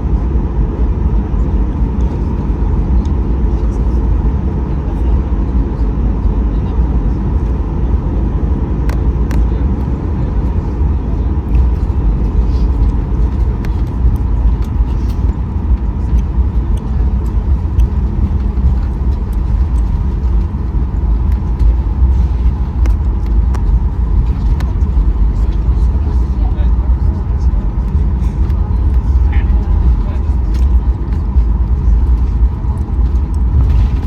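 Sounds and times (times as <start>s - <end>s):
aircraft cabin low rumble: 0.0s - 34.0s.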